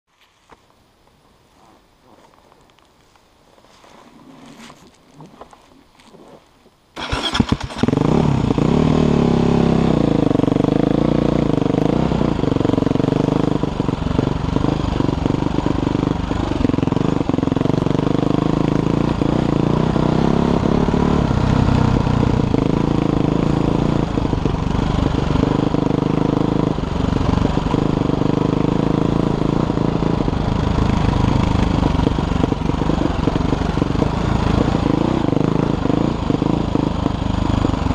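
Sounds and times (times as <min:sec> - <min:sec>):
dirt bike engine revving: 0:07.0 - 0:37.9.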